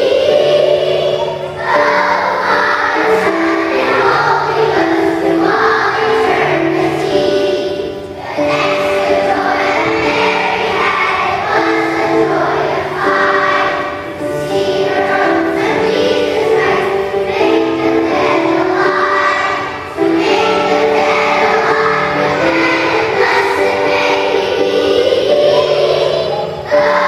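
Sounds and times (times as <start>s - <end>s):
children's choir singing: 0.0s - 27.0s
musical accompaniment: 0.0s - 27.0s.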